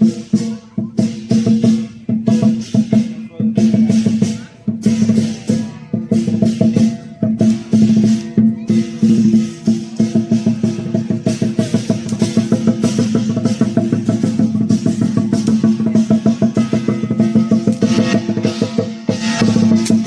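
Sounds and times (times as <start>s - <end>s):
cymbals clashing: 0.0s - 20.0s
drum beaten fast: 0.0s - 20.0s.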